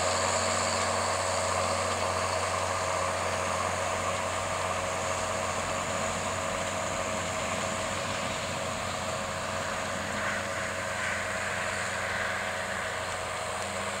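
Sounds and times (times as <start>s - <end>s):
diesel tractor engine droning: 0.0s - 14.0s.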